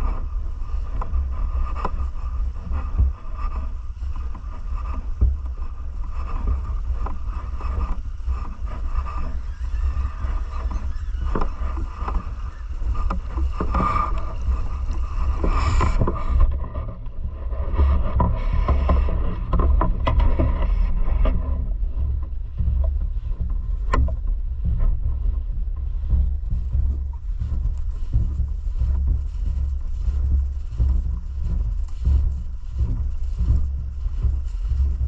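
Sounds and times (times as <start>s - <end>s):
river water rumbling: 0.0s - 35.0s.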